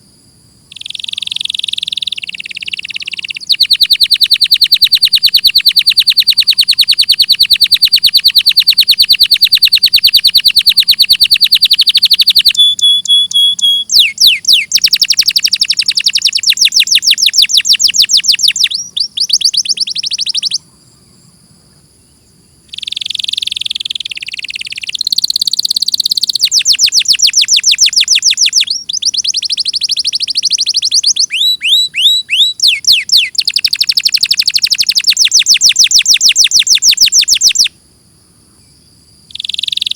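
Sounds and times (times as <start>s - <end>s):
canary singing trills: 0.7s - 21.2s, 22.0s - 37.8s, 39.3s - 39.9s.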